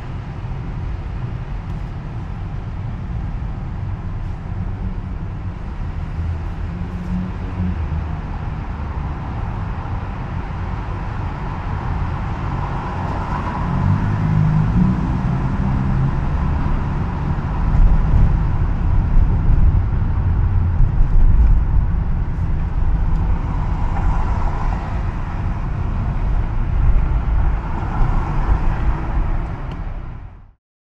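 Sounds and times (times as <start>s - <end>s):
car cabin road noise: 0.0s - 30.5s.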